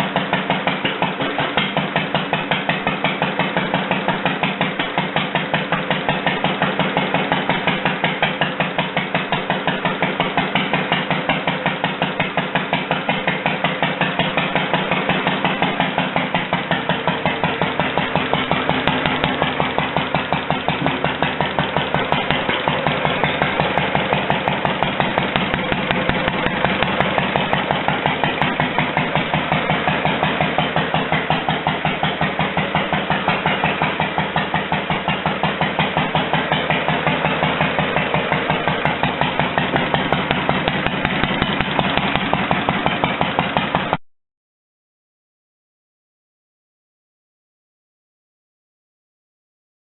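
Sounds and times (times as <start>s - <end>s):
stationary engine running: 0.0s - 44.0s.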